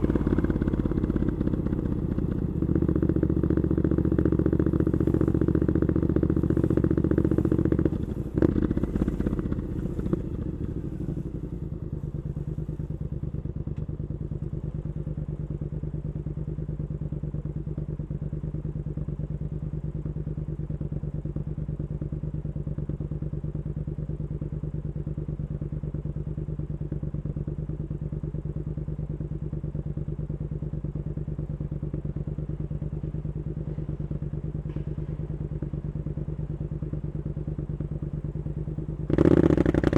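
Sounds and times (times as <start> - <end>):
engine knock: 0.0 - 39.9
motorcycle engine idling: 0.0 - 39.9.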